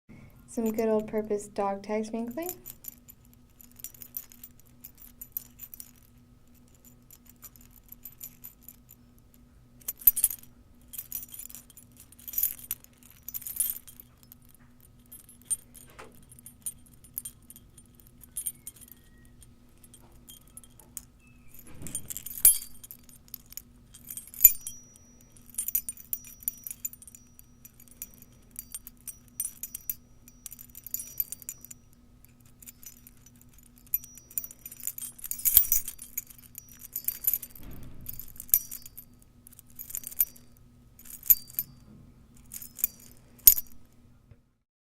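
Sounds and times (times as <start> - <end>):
faint low hum: 0.1 - 44.6
metal dog tags jingling: 2.2 - 43.9.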